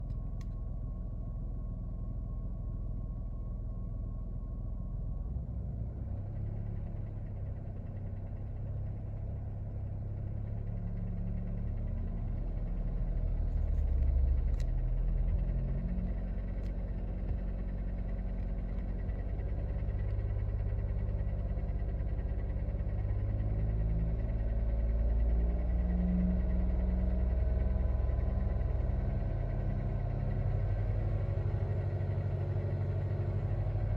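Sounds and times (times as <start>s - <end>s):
engine and road rumble: 0.0s - 33.9s.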